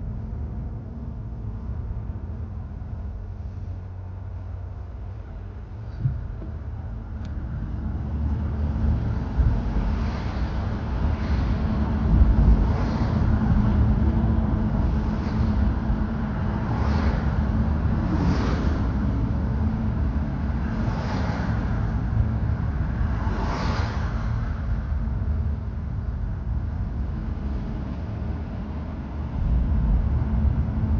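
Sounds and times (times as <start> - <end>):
car rumbling on road: 0.0 - 30.9.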